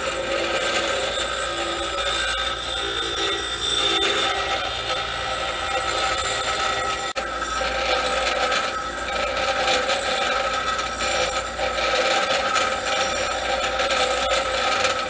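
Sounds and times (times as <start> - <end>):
harsh mechanical noise: 0.0 - 15.0.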